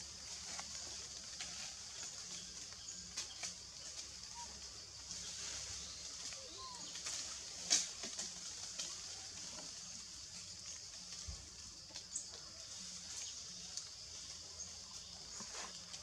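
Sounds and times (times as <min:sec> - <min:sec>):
steady high-pitched hiss: 0:00.0 - 0:16.0.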